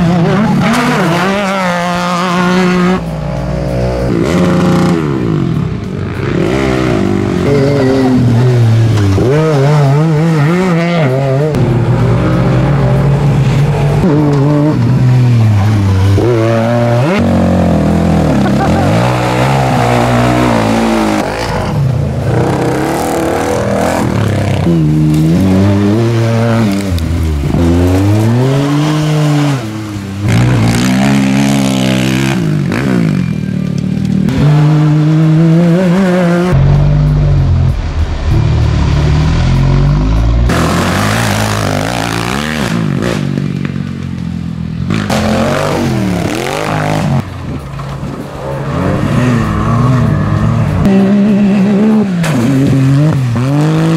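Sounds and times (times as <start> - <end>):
off-road vehicle engines revving: 0.0 - 53.9.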